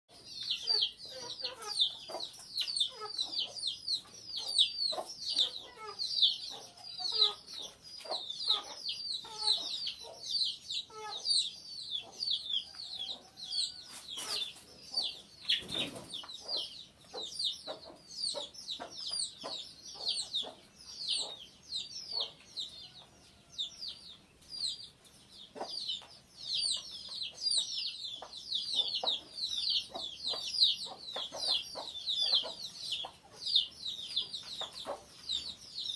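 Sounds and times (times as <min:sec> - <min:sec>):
chicks peeping: 0:00.1 - 0:35.9
hens clucking: 0:00.2 - 0:23.8, 0:25.5 - 0:35.9.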